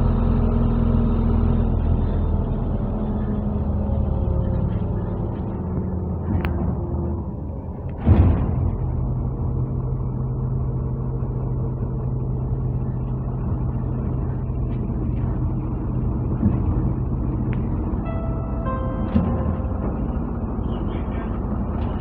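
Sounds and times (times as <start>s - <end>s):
bus engine droning: 0.0s - 22.0s
road noise: 0.0s - 22.0s.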